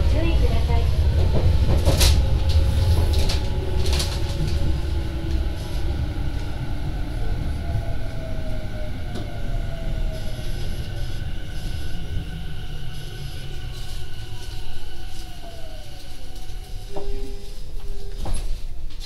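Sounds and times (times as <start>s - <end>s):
rumble of wheels on rail: 0.0s - 19.0s.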